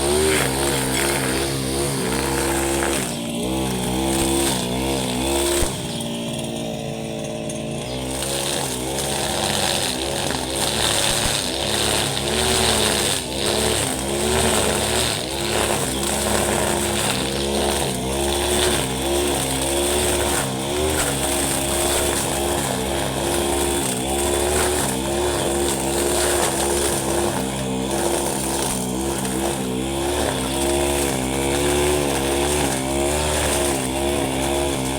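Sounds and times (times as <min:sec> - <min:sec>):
brush cutter engine running: 0:00.0 - 0:34.9.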